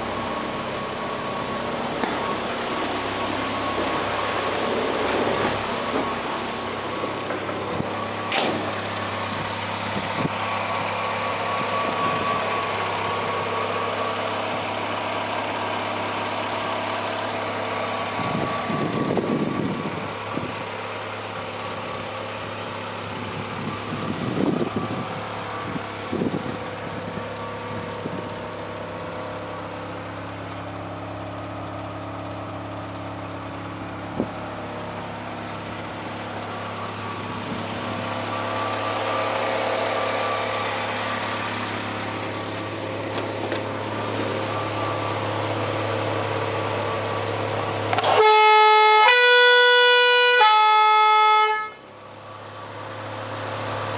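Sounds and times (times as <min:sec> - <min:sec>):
van engine idling: 0:00.0 - 0:53.9.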